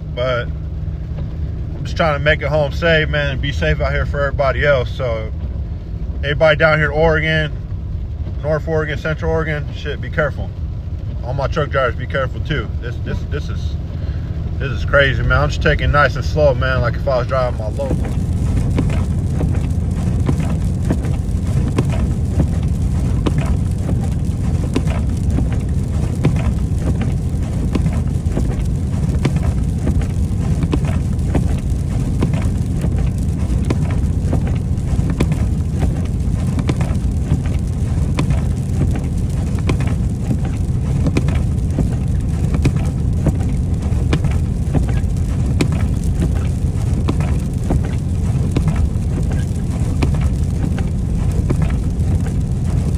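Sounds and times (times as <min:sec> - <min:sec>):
freezing rain ticking on truck: 0:00.0 - 0:52.9
truck engine and road rumble: 0:00.0 - 0:52.9.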